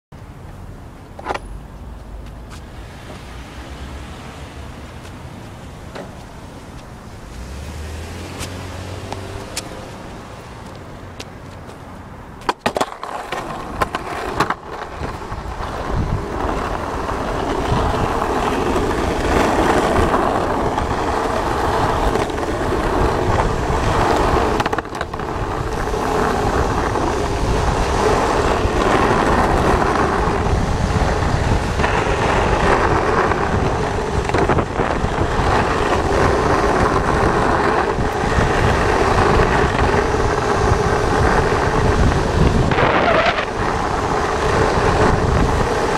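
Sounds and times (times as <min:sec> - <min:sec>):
skateboard wheels rolling on asphalt: 0:00.2 - 0:45.9.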